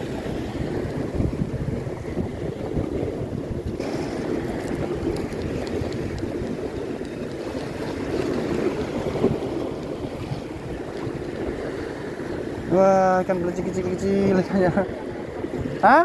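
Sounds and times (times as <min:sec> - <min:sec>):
waves washing against rocks: 0:00.0 - 0:16.0
wind buffeting microphone: 0:00.0 - 0:16.0.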